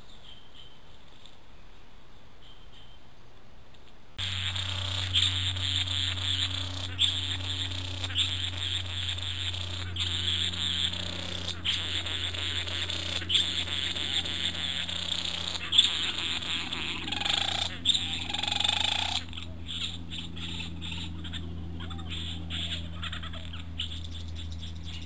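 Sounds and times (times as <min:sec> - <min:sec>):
steady low hum: 0:04.1 - 0:25.0
bird rasping buzzing churr: 0:04.2 - 0:25.0.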